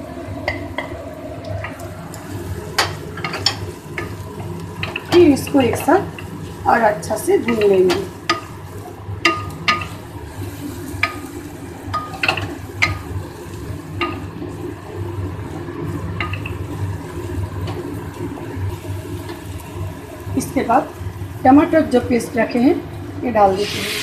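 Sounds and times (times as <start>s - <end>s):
frying sizzle: 0.0s - 24.0s.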